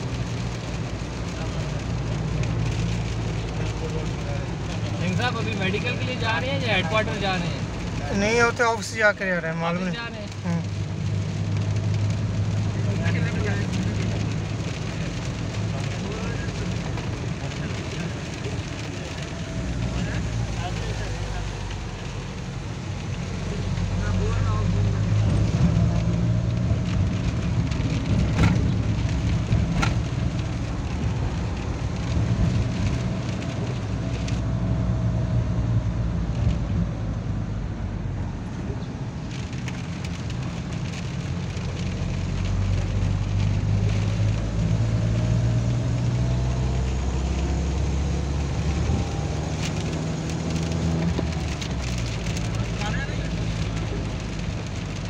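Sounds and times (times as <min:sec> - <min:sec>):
car engine hum: 0:00.0 - 0:55.0
tyres on a wet road: 0:00.0 - 0:55.0.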